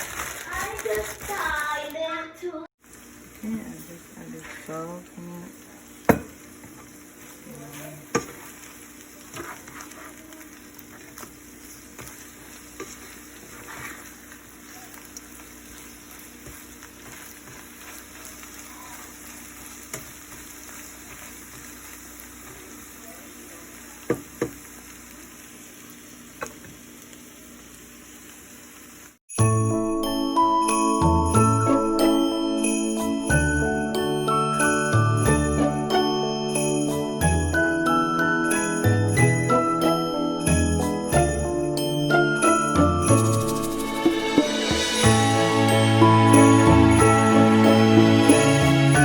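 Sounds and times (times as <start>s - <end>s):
food sizzling in a frying pan: 0.0s - 2.2s, 2.8s - 49.0s.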